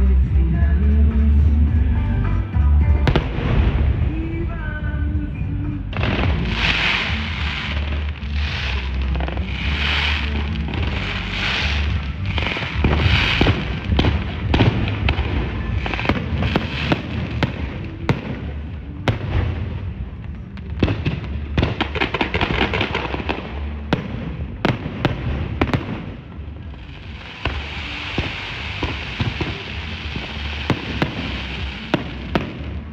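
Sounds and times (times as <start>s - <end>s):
fireworks crackling: 0.0s - 32.9s
low rumble: 0.0s - 32.9s
fireworks bangs: 2.9s - 5.1s, 5.9s - 32.9s.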